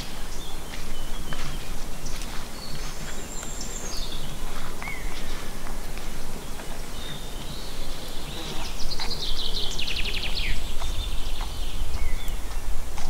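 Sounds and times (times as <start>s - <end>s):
songbird trill: 0.0s - 13.0s.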